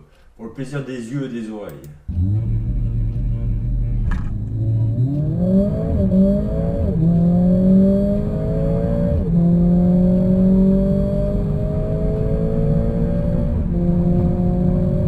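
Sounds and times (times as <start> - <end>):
car engine revving: 2.0 - 15.0.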